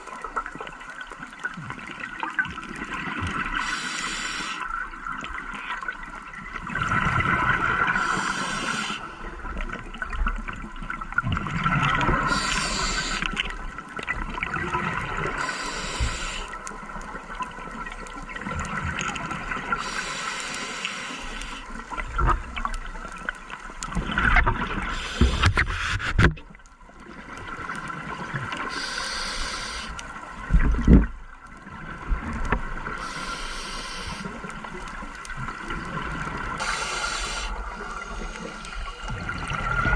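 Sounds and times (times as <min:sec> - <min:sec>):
underwater wash: 0:00.0 - 0:39.9.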